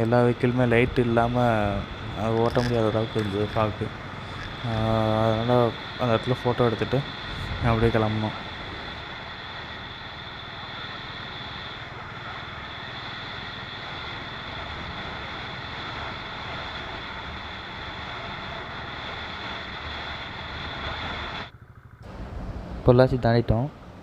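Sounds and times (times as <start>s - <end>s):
constant high tone: 0.0s - 22.2s
motorcycle road and wind noise: 0.0s - 24.0s.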